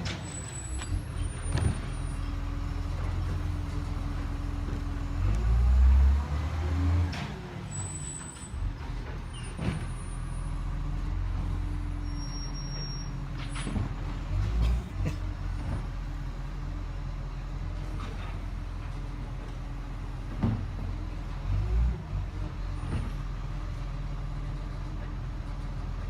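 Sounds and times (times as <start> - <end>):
garbage truck engine running: 0.0 - 26.0.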